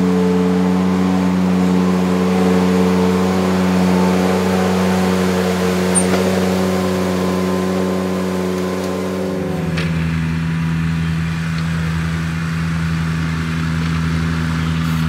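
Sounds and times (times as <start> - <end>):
compact tractor running: 0.0 - 15.0.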